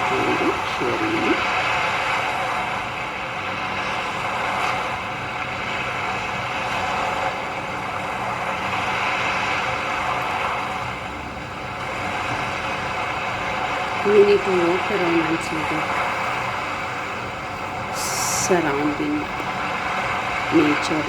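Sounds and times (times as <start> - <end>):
road traffic hiss: 0.0 - 21.0.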